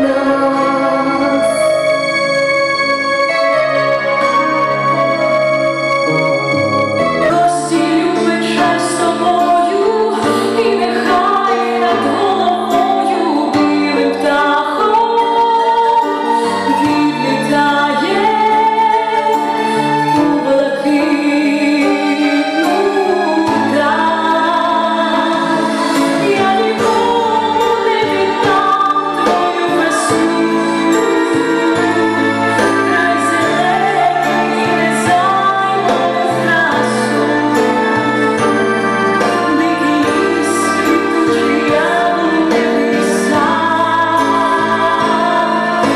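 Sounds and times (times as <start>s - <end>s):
woman singing into microphone: 0.0s - 2.2s, 7.2s - 45.9s
instrumental accompaniment: 0.0s - 45.9s.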